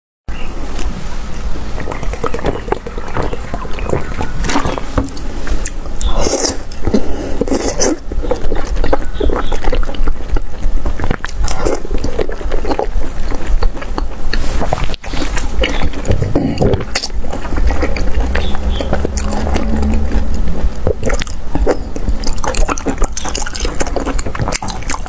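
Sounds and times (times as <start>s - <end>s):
steady low hum: 0.3s - 25.0s
wet chewing and sucking: 0.4s - 25.0s
mouth smacks and clicks: 0.8s - 25.0s.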